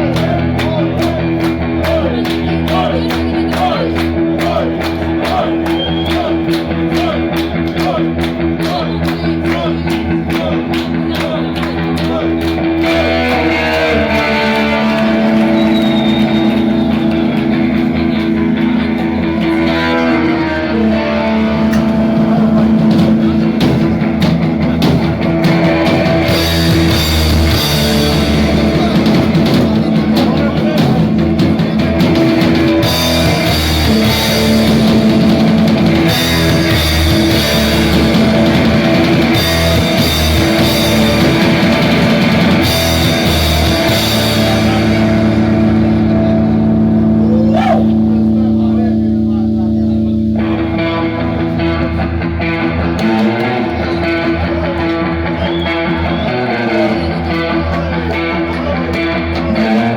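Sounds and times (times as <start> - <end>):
guitar: 0.0 - 59.9
rock band playing: 0.0 - 59.9.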